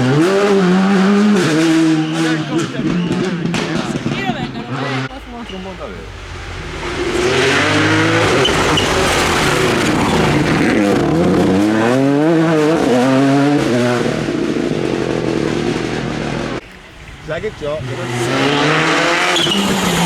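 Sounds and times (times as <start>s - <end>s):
rally car engine driving past: 0.0s - 20.0s.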